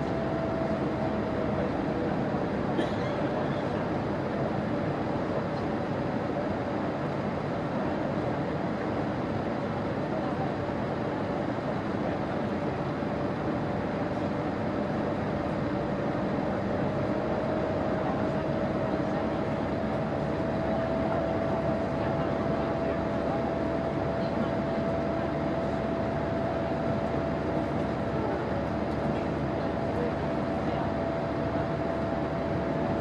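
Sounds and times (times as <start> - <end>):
jet engine and airflow rush: 0.0 - 33.0.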